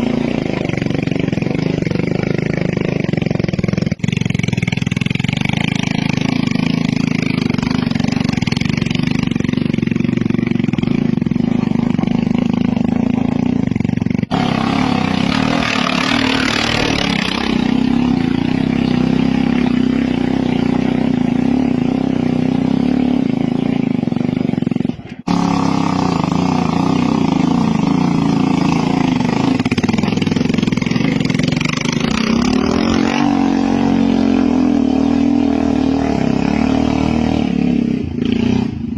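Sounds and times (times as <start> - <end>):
motorcycle engine under load: 0.0 - 38.9.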